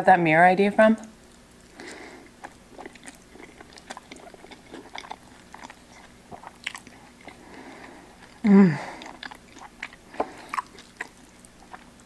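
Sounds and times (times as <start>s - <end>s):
person chewing: 1.1s - 12.0s.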